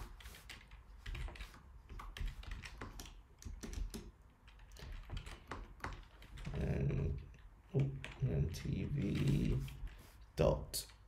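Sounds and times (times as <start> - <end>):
computer keyboard typing: 0.0 - 10.0.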